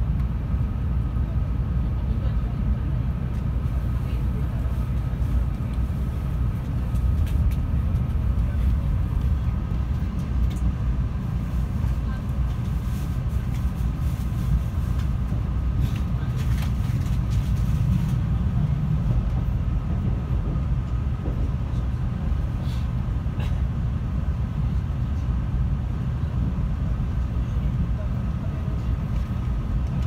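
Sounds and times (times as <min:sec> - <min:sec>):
train cabin running rumble: 0:00.0 - 0:30.0.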